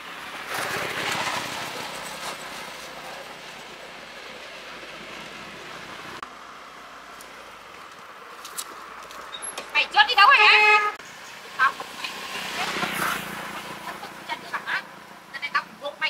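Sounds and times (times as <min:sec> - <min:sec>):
vehicle running: 0:00.0 - 0:16.0.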